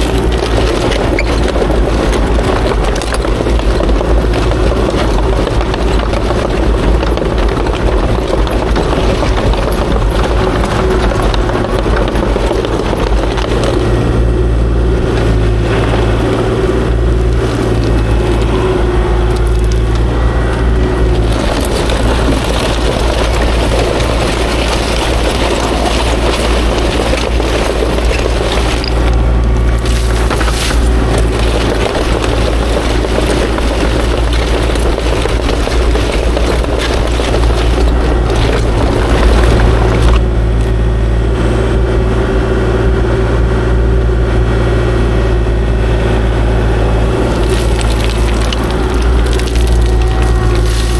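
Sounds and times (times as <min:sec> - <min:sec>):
rough crackling noise: 0:00.0 - 0:41.0, 0:45.5 - 0:50.9
excavator diesel engine: 0:00.0 - 0:50.9.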